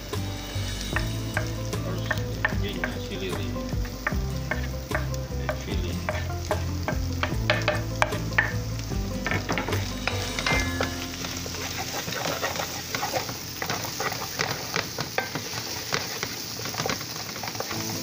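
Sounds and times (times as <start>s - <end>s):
food sizzling in oil: 0.0s - 18.0s
spatula scraping and tapping pan: 0.5s - 18.0s.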